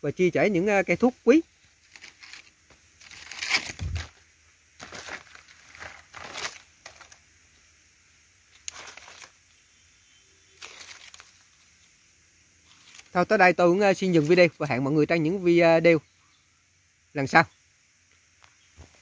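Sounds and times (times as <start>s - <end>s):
leaves and stems rustling: 0.1s - 12.0s, 12.6s - 16.0s.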